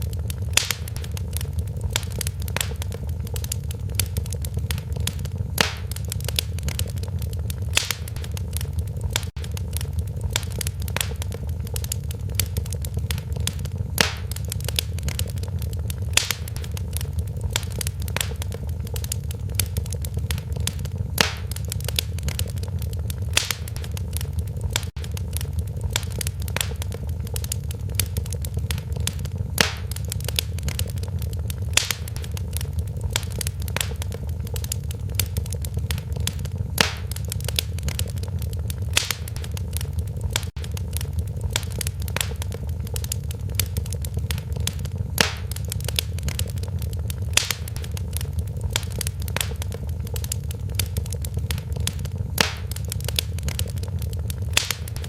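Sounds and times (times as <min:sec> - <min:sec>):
fire crackling and popping: 0:00.0 - 0:55.0
low rumble of flames: 0:00.0 - 0:55.0.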